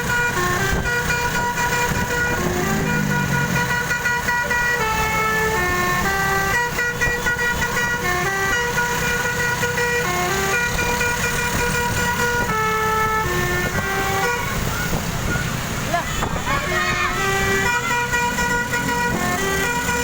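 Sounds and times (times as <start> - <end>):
bus musical horn melody: 0.0 - 20.0.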